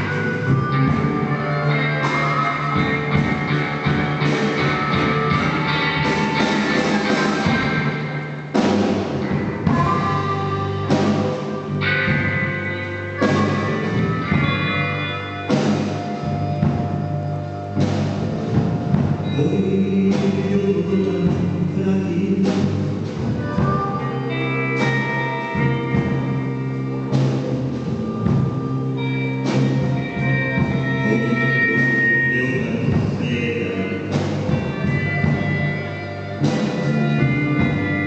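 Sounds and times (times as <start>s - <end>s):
blues band playing: 0.0s - 38.0s.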